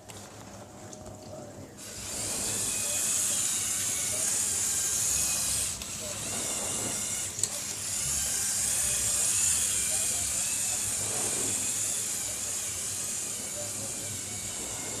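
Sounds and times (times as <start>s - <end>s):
electric motors and gears whirring: 0.0s - 15.0s.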